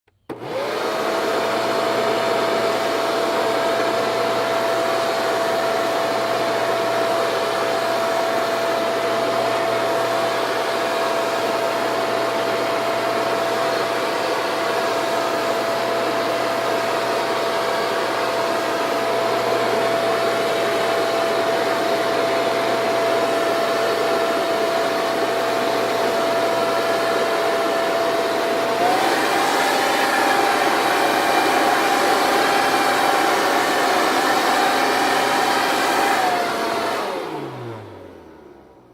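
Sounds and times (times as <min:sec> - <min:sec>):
leaf blower whining: 0:00.2 - 0:38.8.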